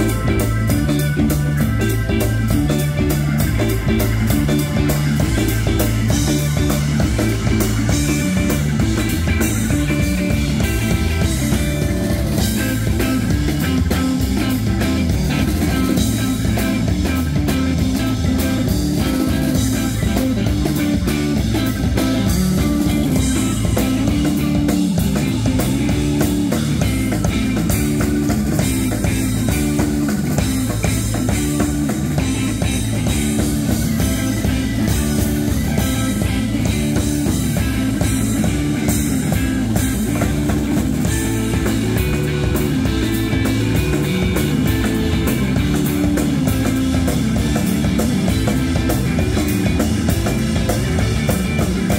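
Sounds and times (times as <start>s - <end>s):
distorted electric guitar: 0.0s - 51.9s
drum kit: 0.0s - 51.9s
organ: 0.0s - 51.9s
steady bass line: 0.0s - 51.9s.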